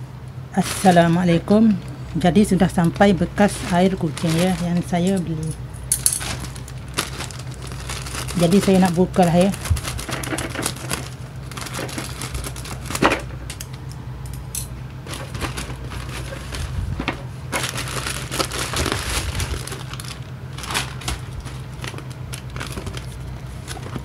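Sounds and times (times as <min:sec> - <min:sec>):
plastic crinkling and rustling: 0:00.6 - 0:13.6, 0:15.0 - 0:24.0
scissors cutting plastic mailer: 0:02.6 - 0:13.7, 0:15.1 - 0:24.0.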